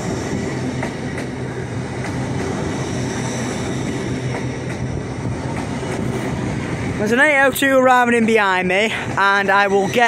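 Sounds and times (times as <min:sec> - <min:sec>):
electric train passing: 0:00.0 - 0:10.0.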